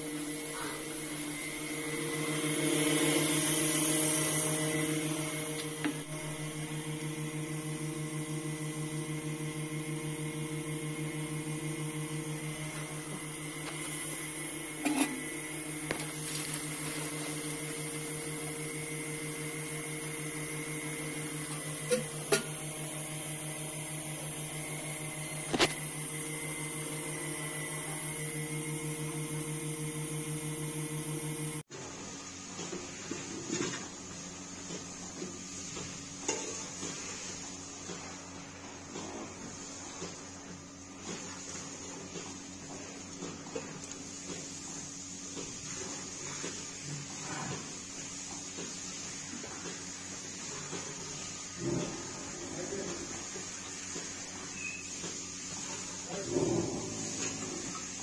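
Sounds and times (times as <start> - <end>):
motor humming with fast pulse: 0.0 - 58.0.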